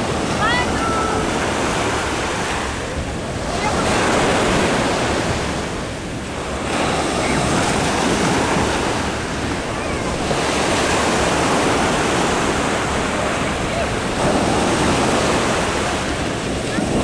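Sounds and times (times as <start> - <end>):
sea surf breaking: 0.0 - 17.0.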